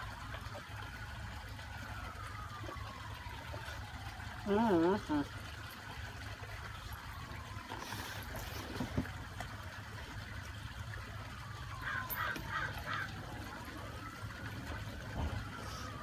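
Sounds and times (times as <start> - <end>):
faint siren: 0.0 - 16.0.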